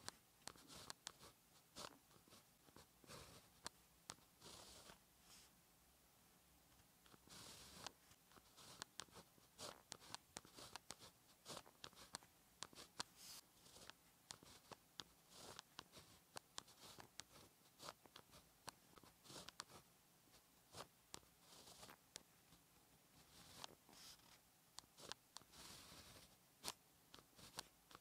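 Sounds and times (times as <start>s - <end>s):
pen scratching on paper: 0.4s - 5.5s, 7.1s - 22.2s, 23.2s - 28.0s.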